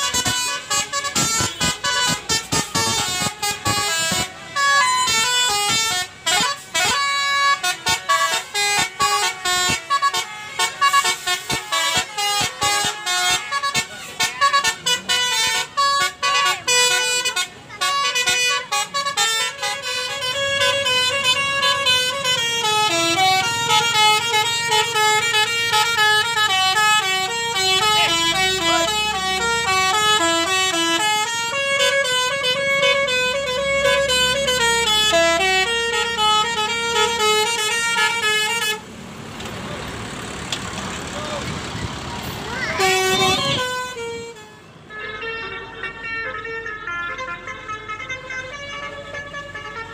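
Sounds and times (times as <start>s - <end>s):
musical air horn playing tune: 0.0s - 38.9s, 42.4s - 49.9s.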